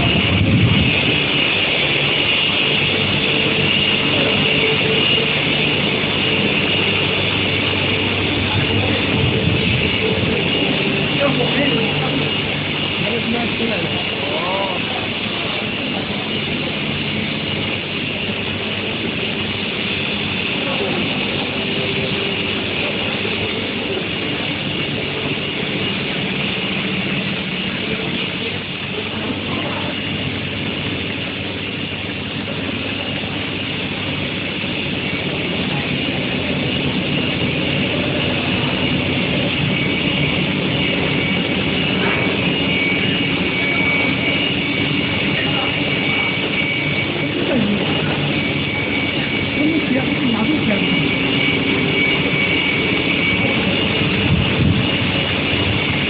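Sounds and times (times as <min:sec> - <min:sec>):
machine high whine: 0:00.0 - 0:56.0.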